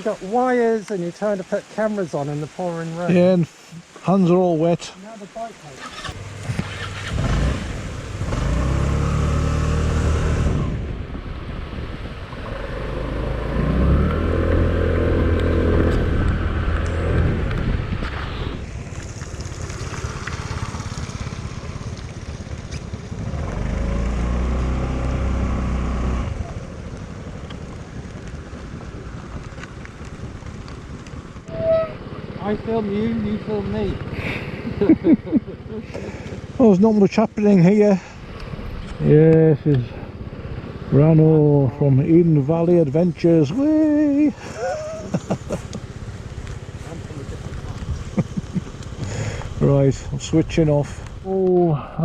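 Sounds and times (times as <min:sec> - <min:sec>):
motorcycle engine accelerating: 0:05.8 - 0:37.1, 0:38.1 - 0:49.9.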